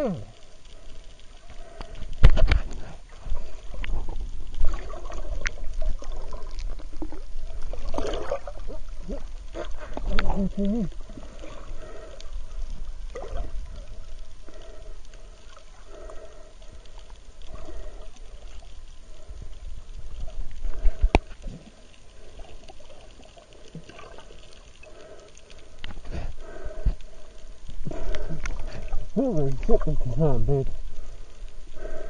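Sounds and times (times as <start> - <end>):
muffled underwater rumble and sloshing: 0.0 - 32.0.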